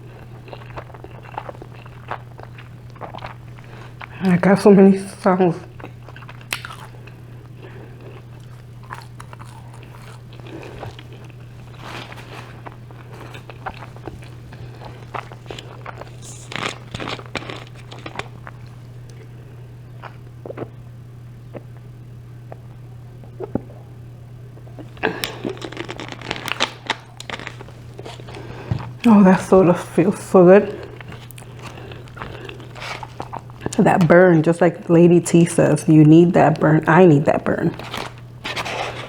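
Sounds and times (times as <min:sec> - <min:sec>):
chewing and crunching: 0:00.0 - 0:20.8, 0:24.5 - 0:34.9, 0:35.5 - 0:39.0
steady low hum: 0:00.0 - 0:39.0.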